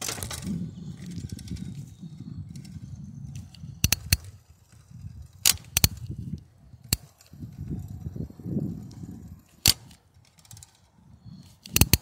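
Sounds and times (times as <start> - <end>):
bicycle clicks and knocks: 0.0 - 12.0
bicycle rolling on pavement: 0.0 - 12.0.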